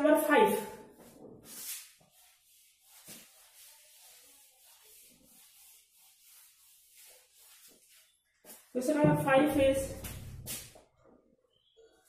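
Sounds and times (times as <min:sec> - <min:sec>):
duster rubbing on whiteboard: 0:01.0 - 0:10.8.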